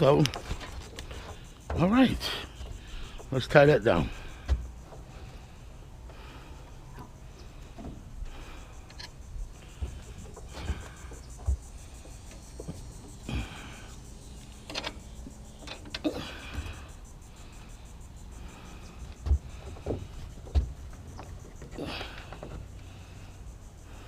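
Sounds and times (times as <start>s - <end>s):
rustles: 0.0s - 24.0s.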